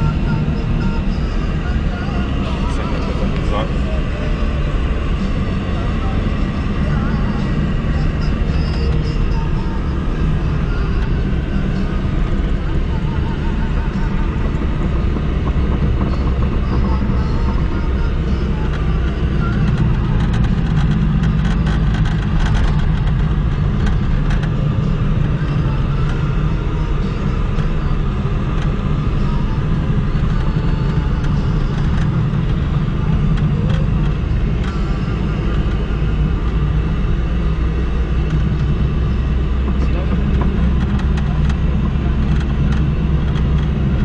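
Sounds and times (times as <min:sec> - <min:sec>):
car engine and tyre drone: 0:00.0 - 0:44.0.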